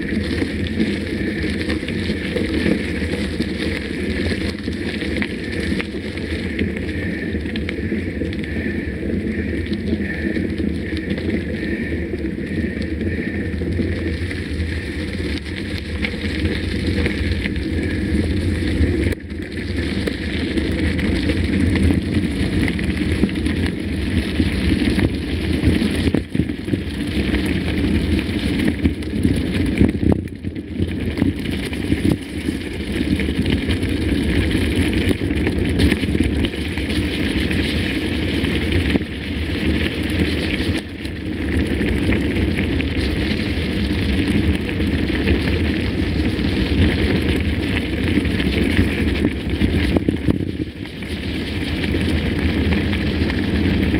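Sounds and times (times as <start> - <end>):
bike tyres rumbling on trail: 0.0 - 53.9
wind on microphone: 0.0 - 53.9.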